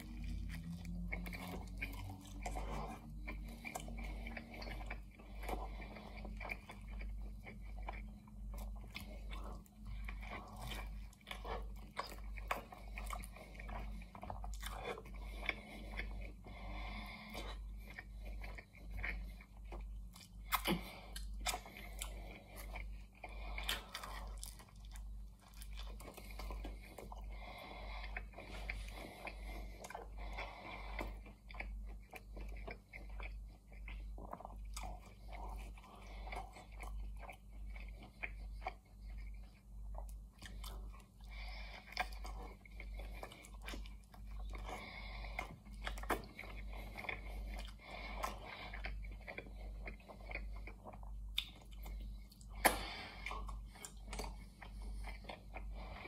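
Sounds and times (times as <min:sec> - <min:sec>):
chewing crunchy pastry: 0:00.0 - 0:56.0
low steady hum: 0:00.0 - 0:56.0.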